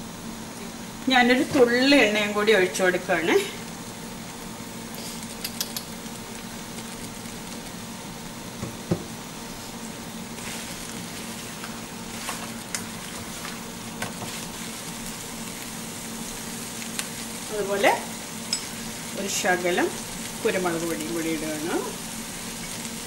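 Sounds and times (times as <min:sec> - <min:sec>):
masala sizzling in oil: 0:00.1 - 0:23.0.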